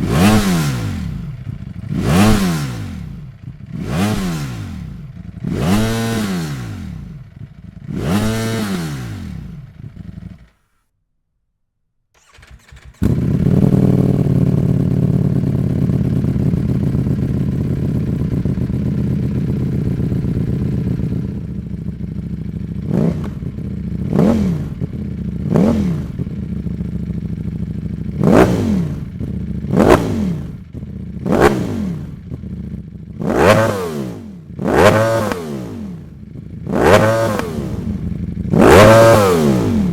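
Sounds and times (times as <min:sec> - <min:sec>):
motorcycle engine revving and idling: 0:00.0 - 0:10.7, 0:12.2 - 0:39.9.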